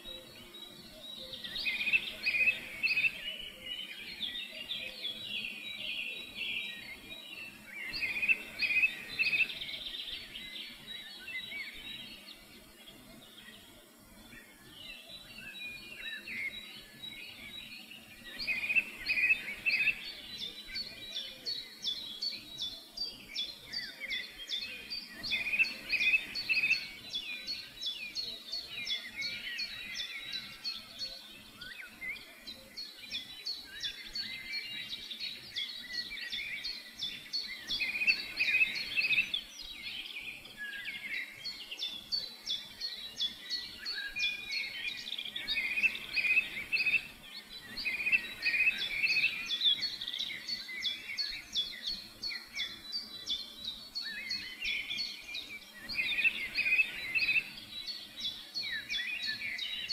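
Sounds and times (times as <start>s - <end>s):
wild birds chirping: 0.0s - 59.9s.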